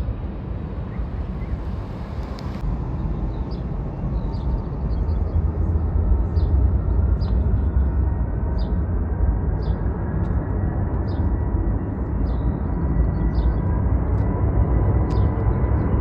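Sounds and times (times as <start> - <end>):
jet airliner engines taking off: 0.0 - 16.0.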